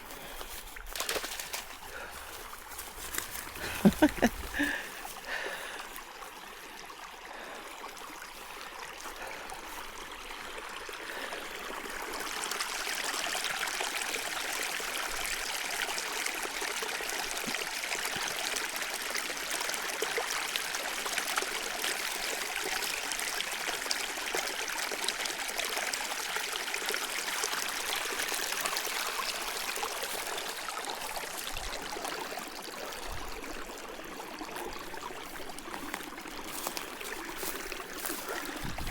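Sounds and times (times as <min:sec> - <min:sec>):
stream rushing and trickling: 0:00.0 - 0:38.9.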